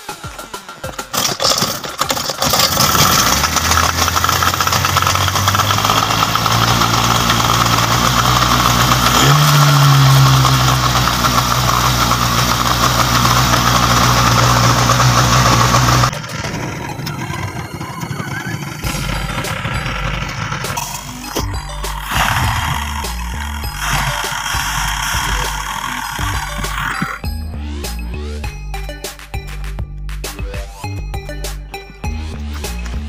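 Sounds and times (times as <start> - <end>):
outboard motor starting and running: 0.8 - 27.3.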